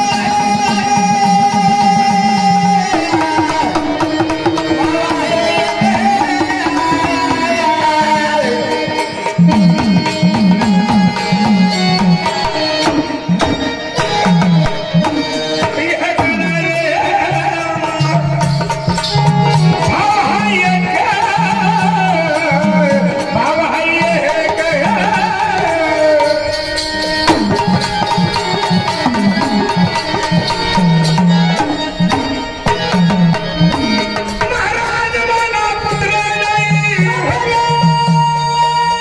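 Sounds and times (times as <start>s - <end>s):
hand drum rhythm: 0.0s - 39.0s
ornamented folk melody: 0.0s - 39.0s.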